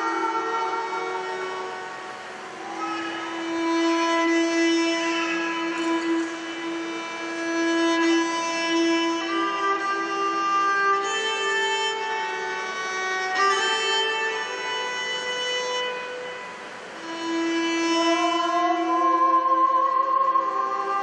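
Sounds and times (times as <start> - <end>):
solo violin slow melody: 0.0 - 21.0.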